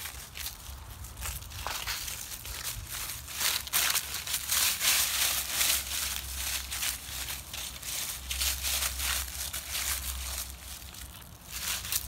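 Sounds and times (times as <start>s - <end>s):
dry leaves crunching underfoot: 0.0s - 12.0s.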